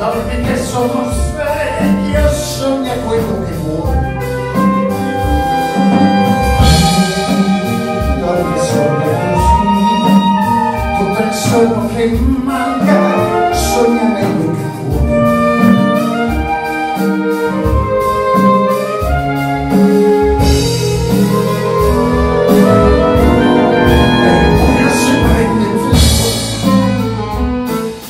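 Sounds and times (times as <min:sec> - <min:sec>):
double bass: 0:00.0 - 0:28.0
drums: 0:00.0 - 0:28.0
saxophone melody: 0:01.3 - 0:28.0.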